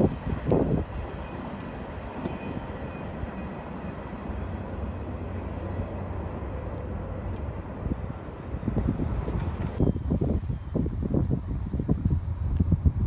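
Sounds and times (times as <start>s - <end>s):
distant freight train rumble: 0.0s - 13.0s.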